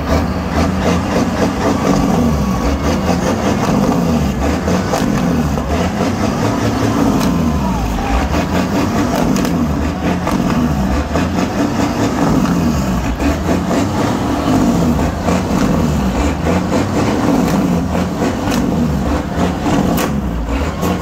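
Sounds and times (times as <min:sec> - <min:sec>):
truck diesel engine revving: 0:00.0 - 0:21.0.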